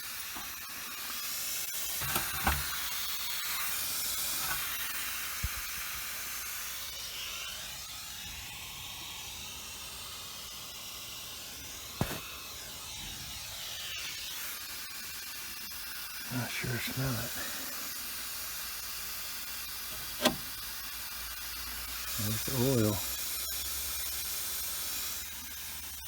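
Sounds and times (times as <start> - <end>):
refrigerant hissing from leak: 0.0 - 26.0.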